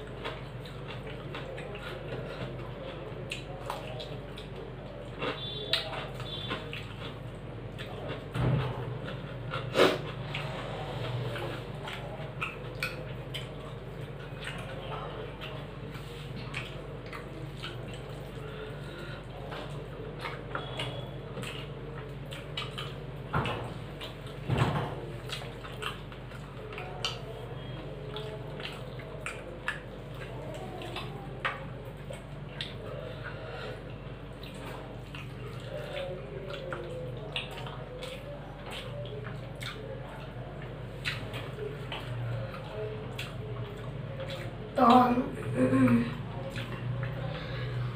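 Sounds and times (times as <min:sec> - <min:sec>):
wet squishing of rice: 0:00.0 - 0:45.0, 0:45.7 - 0:47.9
chewing: 0:00.0 - 0:47.9.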